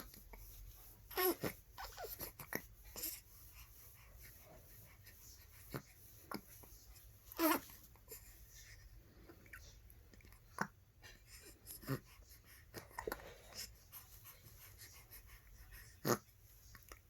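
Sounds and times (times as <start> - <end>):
quiet breathing: 1.9 - 17.0.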